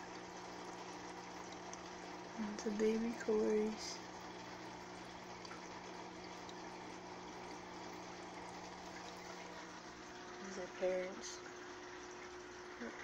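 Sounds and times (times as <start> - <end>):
low filter hum: 0.0 - 13.0
water rushing in aquarium filter: 0.0 - 13.0.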